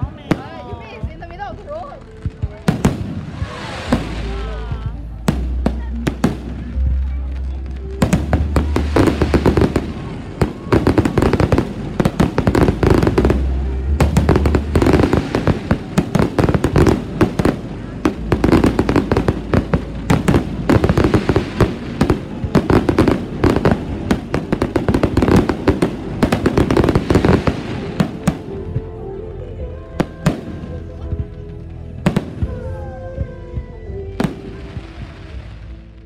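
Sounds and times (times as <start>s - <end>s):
fireworks bursting and crackling: 0.0s - 29.0s, 30.0s - 32.9s, 34.2s - 36.0s
background music: 0.0s - 36.0s.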